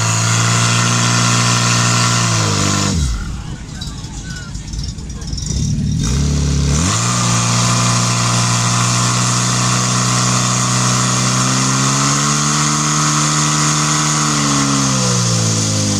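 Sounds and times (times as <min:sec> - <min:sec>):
pump engine running at high revs: 0:00.0 - 0:04.8, 0:05.4 - 0:15.9.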